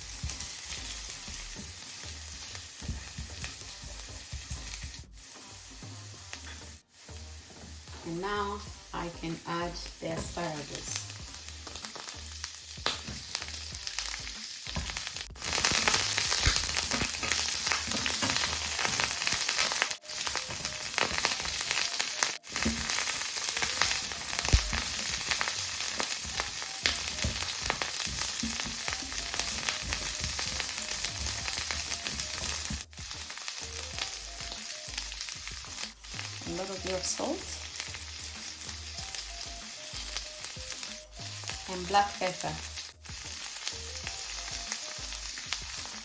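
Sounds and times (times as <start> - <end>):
vegetables sizzling in a pan: 0.0 - 46.0.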